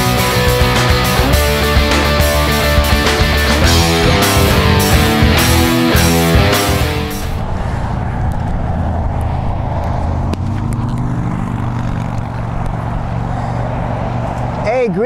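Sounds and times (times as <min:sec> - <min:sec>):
road traffic engine rumble: 0:00.0 - 0:15.0.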